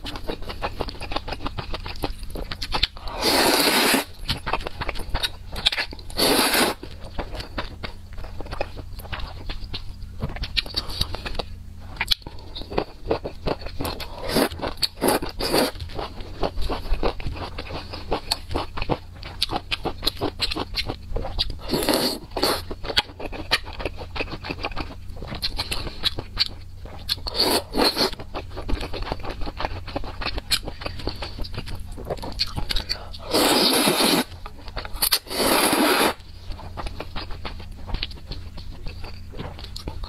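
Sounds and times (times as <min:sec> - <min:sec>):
person chewing and smacking: 0:00.0 - 0:40.0.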